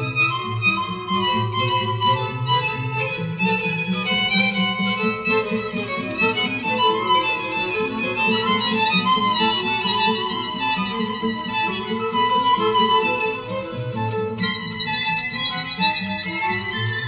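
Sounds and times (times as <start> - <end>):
string quartet playing: 0.0 - 17.0.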